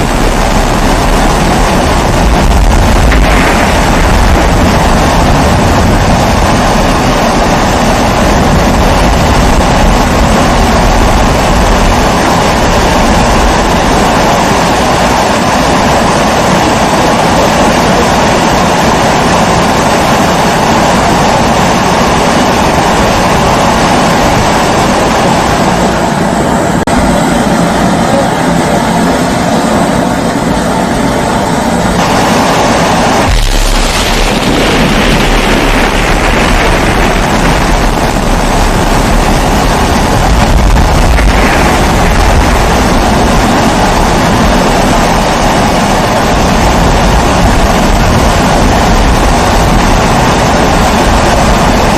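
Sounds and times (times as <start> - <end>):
pressure stove burner roaring: 0.0 - 51.9.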